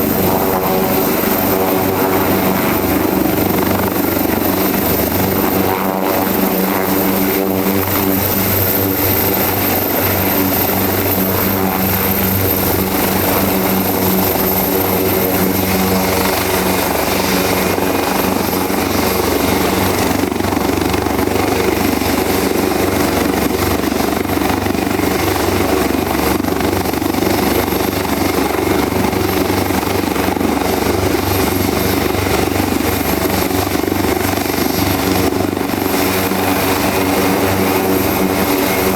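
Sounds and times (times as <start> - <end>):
helicopter turbine and rotor noise: 0.0 - 38.9
high turbine whine: 0.0 - 38.9.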